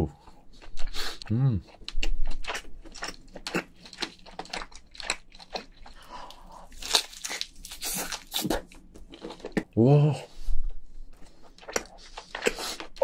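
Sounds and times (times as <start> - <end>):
person chewing with mouth smacks: 0.2 - 9.8, 11.1 - 13.0.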